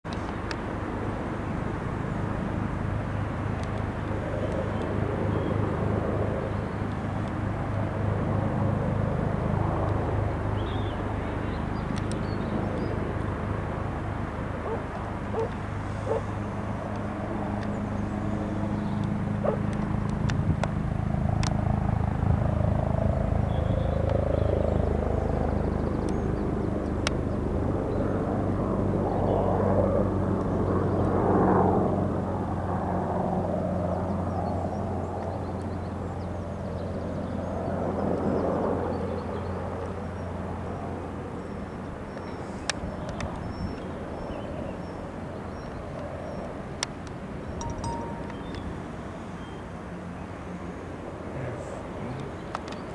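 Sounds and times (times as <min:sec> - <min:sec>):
helicopter turbine whine: 0:00.2 - 0:52.9
helicopter rotor beat: 0:00.3 - 0:49.2.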